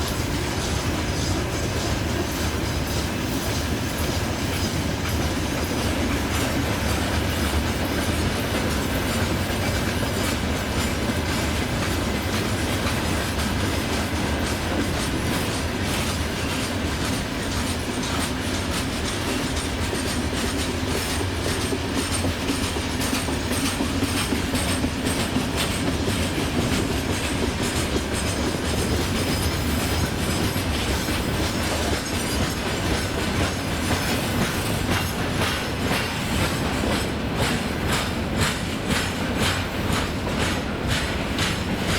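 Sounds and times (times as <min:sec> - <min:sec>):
freight train rumble: 0:00.0 - 0:41.9
train wheels clattering over rail joints: 0:00.0 - 0:41.9.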